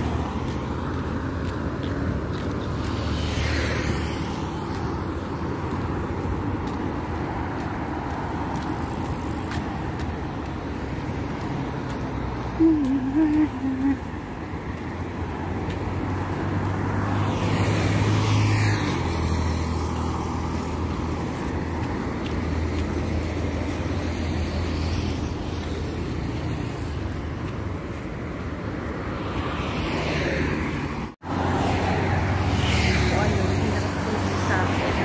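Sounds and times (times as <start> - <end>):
cars passing by: 0.0 - 35.0
road traffic rumble: 0.0 - 35.0.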